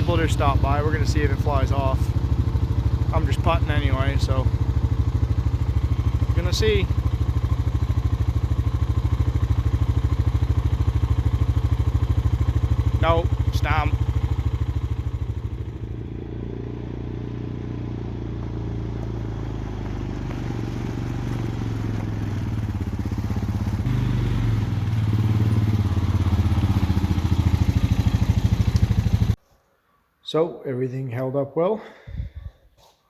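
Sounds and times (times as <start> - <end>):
atv engine puttering: 0.0 - 29.4.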